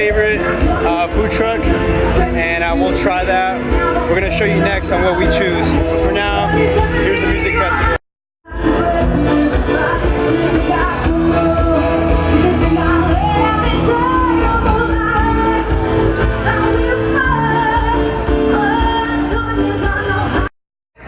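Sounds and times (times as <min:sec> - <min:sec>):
bass line: 0:00.0 - 0:20.5
person singing: 0:00.0 - 0:20.5.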